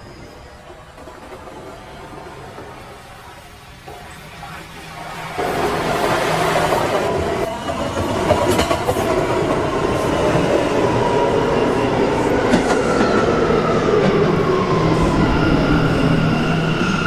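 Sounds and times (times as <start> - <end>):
subway train rumble: 0.0 - 17.0
train whine: 0.0 - 17.0.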